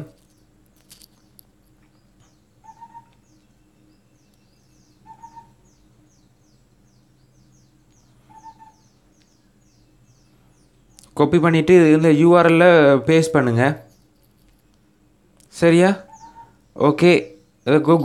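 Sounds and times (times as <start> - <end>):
low steady hum: 0.0 - 18.0
clear bird notes: 1.2 - 14.2, 15.5 - 18.0.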